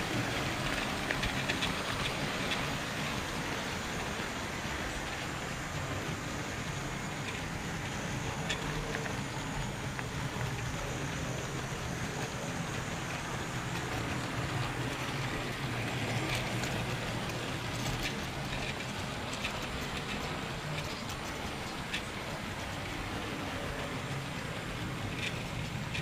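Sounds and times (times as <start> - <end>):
clicks over rail joints: 0.0 - 26.0
model train wheels rumbling on rails: 0.0 - 26.0.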